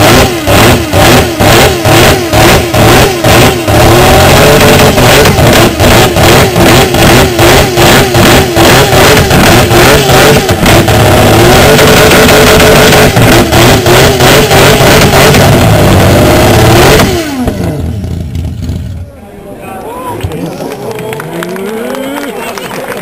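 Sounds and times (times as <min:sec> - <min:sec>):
racing car engine revving: 0:00.0 - 0:19.1.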